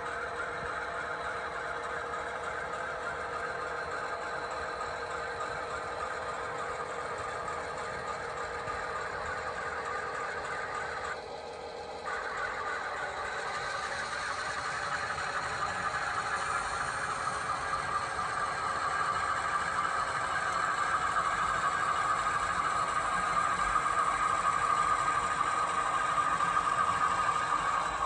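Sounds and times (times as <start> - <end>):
model train wheels rolling: 0.1 - 28.0.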